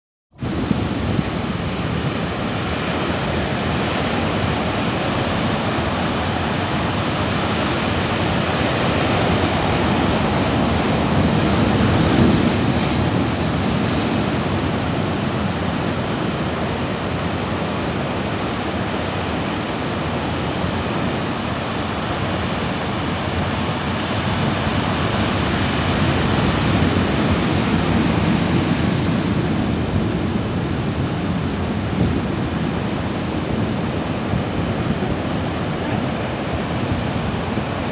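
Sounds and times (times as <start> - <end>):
ocean waves breaking on rocks: 0.5 - 37.9.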